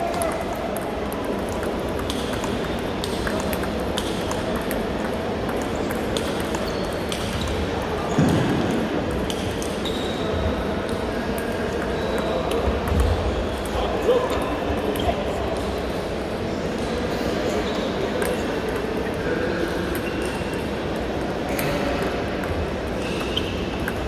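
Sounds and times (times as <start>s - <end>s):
table tennis balls clicking: 0.0s - 13.8s, 18.1s - 24.0s.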